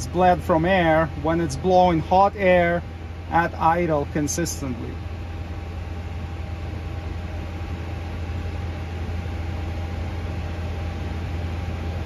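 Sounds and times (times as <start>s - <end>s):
engine idling hum: 0.0s - 12.0s
heater blower rushing: 0.0s - 12.0s.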